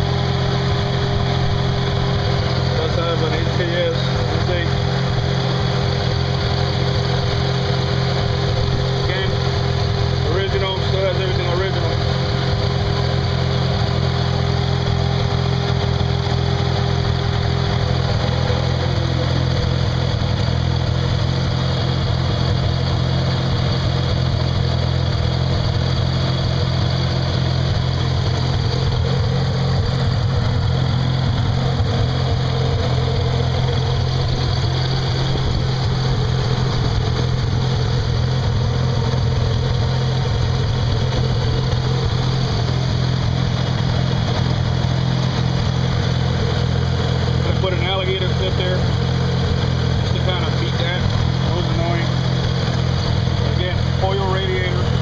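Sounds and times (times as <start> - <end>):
rotary engine idling: 0.0 - 55.0.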